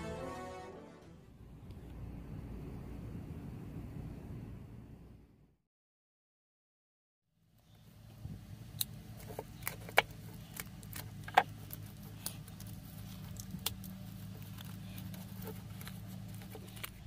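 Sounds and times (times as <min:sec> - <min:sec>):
steady low hum: 0:01.0 - 0:05.6, 0:07.4 - 0:17.0.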